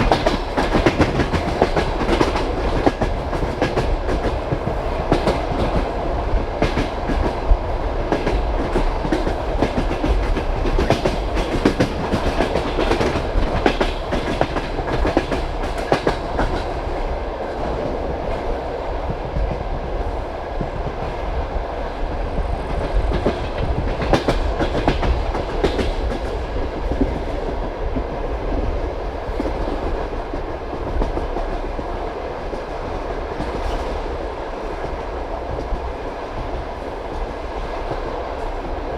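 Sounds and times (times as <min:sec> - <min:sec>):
train wheels clattering over rails: 0:00.0 - 0:19.7, 0:22.0 - 0:38.9.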